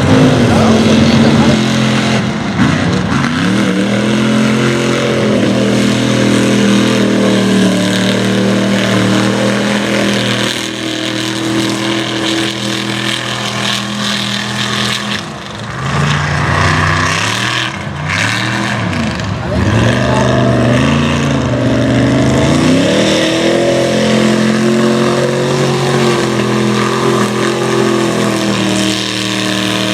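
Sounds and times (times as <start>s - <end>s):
truck engine revving high: 0.0s - 29.9s.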